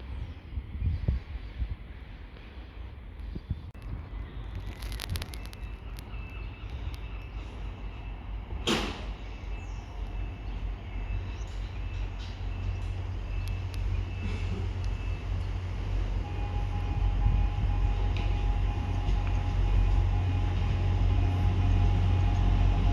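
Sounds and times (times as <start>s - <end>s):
train engine rumbling: 0.0s - 22.9s.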